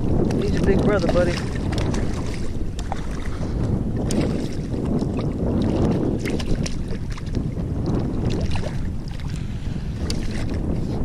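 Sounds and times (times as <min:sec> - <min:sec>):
small splashes and clicks: 0:00.0 - 0:09.4, 0:10.0 - 0:10.6
water lapping against hull: 0:00.0 - 0:11.0
wind buffeting microphone: 0:00.0 - 0:11.0.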